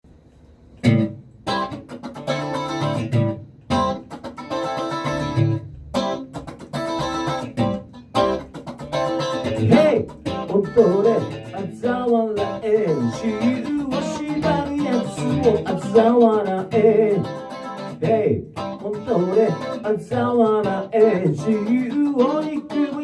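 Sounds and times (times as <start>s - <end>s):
guitar chords in stop-start blocks: 0.8s - 23.0s.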